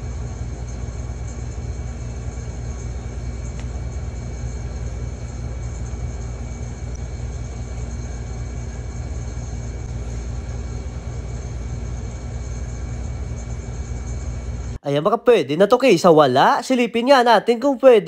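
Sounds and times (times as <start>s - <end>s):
bakery machinery rumbling: 0.0s - 14.8s.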